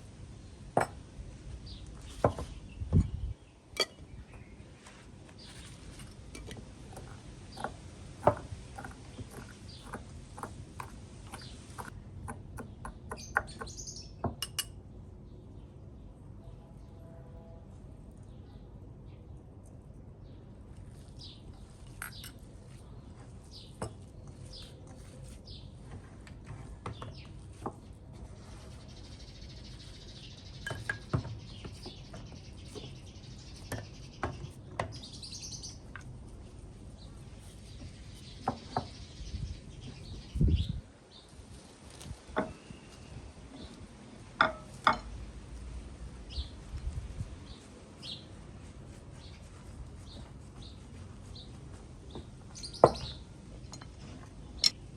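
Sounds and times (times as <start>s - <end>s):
small birds chirping: 1.5s - 14.7s, 20.2s - 26.1s, 26.8s - 44.3s, 46.2s - 54.9s.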